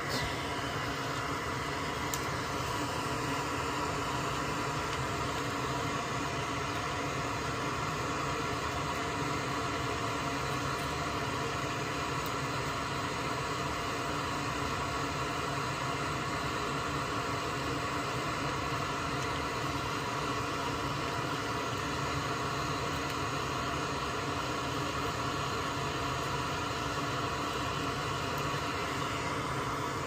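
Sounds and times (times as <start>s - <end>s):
extractor fan running: 0.0s - 30.0s.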